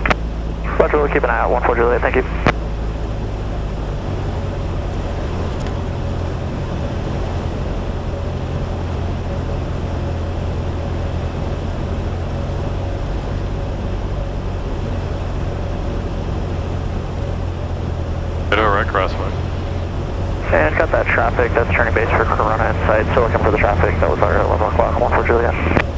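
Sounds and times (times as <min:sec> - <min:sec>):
airplane engine and propeller drone: 0:00.0 - 0:25.9.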